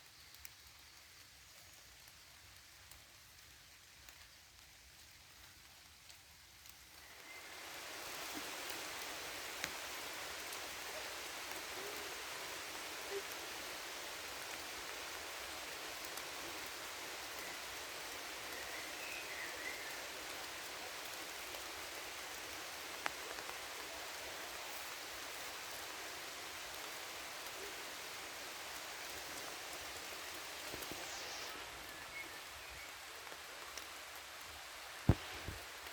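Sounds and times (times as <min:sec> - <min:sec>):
rain pattering on foliage: 0:00.0 - 0:35.9.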